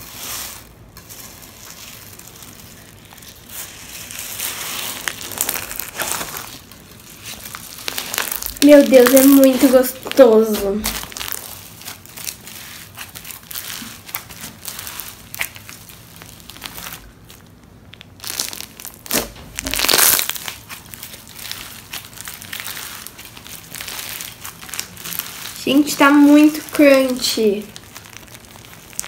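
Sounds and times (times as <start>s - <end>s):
crunchy slime crackling and popping: 0.0s - 29.0s.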